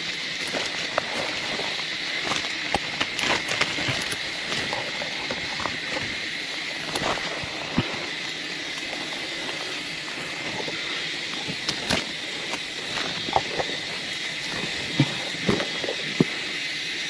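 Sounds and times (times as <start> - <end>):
high-pitched insect hum: 0.0 - 17.0.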